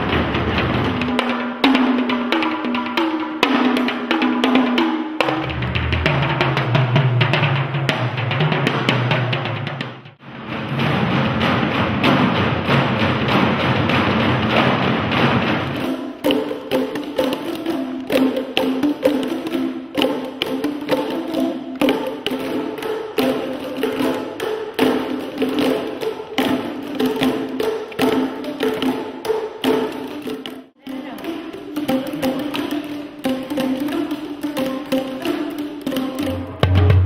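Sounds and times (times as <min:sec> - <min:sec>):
hand drums playing: 0:00.0 - 0:37.0.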